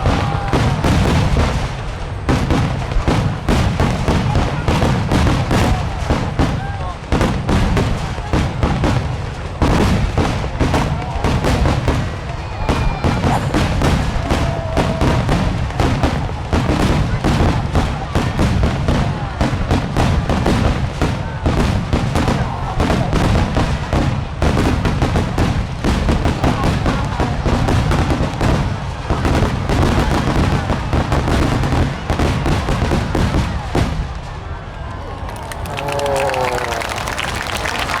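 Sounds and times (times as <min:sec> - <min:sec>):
fireworks bursting: 0:00.0 - 0:38.0.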